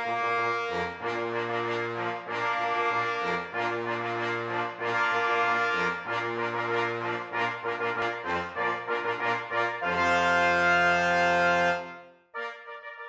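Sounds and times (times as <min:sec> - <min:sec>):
brass background music: 0:00.0 - 0:13.0.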